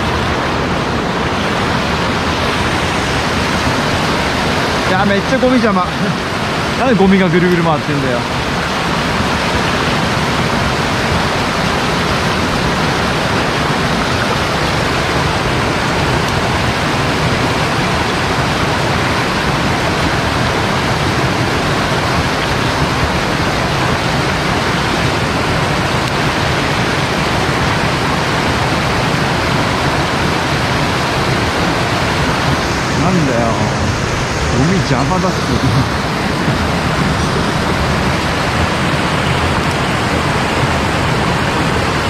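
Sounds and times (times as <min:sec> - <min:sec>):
stream rushing: 0:00.0 - 0:42.0.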